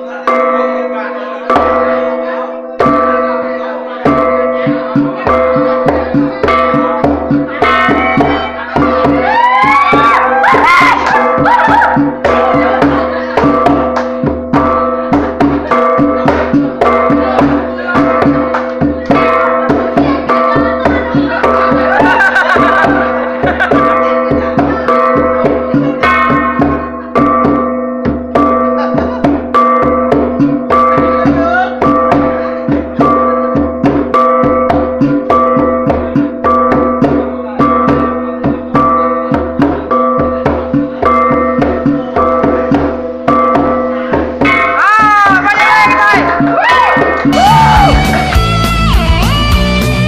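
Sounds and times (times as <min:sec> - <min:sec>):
ringing gongs: 0:00.0 - 0:09.3, 0:11.1 - 0:46.5
drumbeats: 0:00.0 - 0:50.0.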